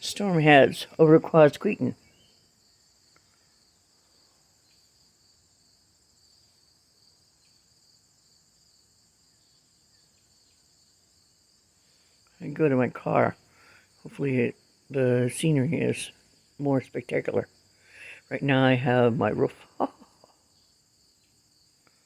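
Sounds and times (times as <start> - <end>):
insect chorus chirring: 0.0 - 22.0.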